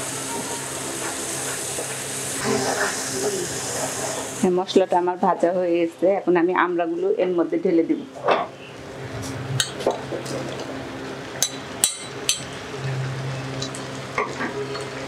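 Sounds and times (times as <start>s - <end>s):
frying sizzle: 0.0s - 5.8s, 8.1s - 15.0s.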